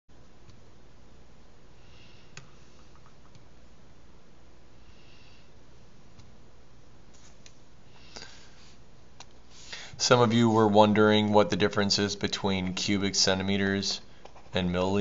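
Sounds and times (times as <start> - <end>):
low microphone hiss: 0.1 - 15.0.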